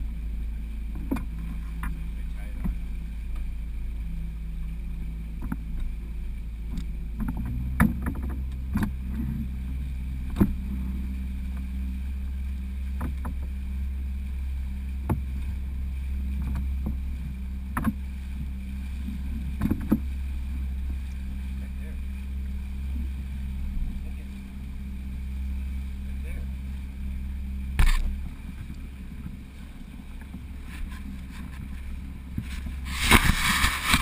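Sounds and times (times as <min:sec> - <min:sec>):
boat motor humming: 0:00.0 - 0:34.0.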